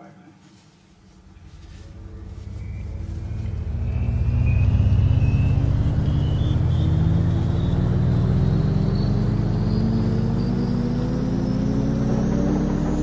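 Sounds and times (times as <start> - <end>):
faint high whine: 0.6 - 13.0
vehicle engine accelerating: 0.9 - 13.0.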